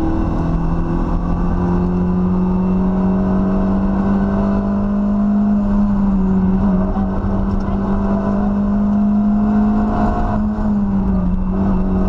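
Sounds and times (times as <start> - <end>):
rally car engine accelerating: 0.0 - 12.0
road and cabin rumble: 0.0 - 12.0.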